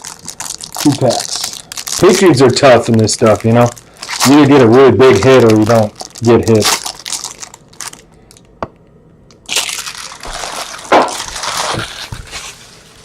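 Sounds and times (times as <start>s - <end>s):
card pack wrapper tearing and crinkling: 0.0s - 8.4s, 9.4s - 12.8s.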